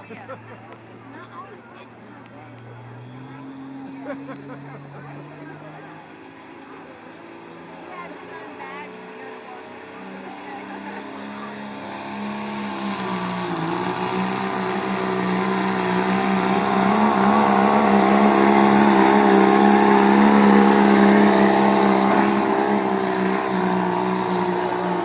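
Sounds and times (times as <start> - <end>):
truck engine under load: 0.0 - 25.0.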